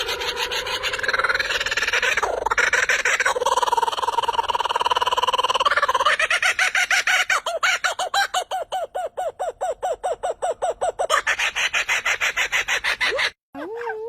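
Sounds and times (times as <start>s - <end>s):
clucking bird-like calls: 0.0s - 14.0s.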